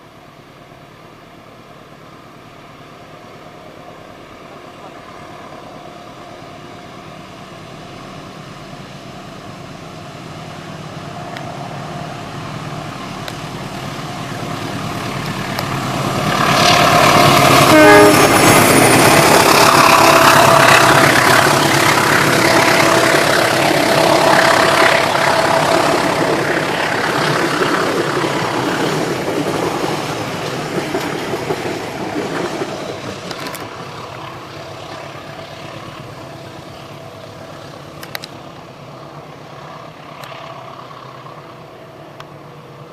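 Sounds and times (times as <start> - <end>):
train passing: 0.0 - 42.9.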